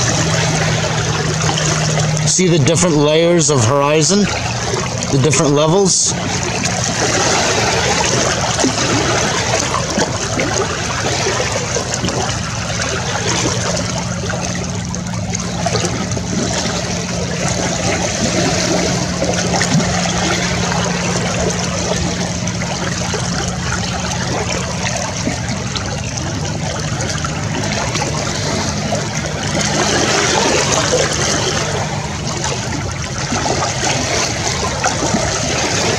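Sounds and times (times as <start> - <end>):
small waves lapping: 0.0 - 35.9.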